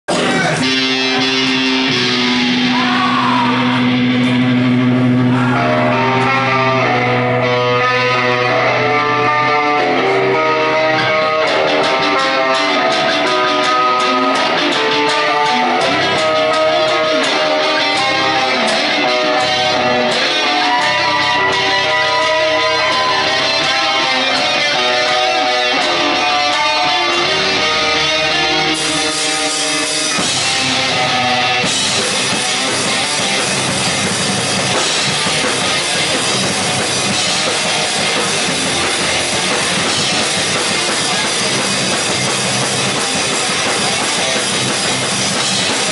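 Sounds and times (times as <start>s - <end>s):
amplified electric guitar: 0.0s - 45.9s.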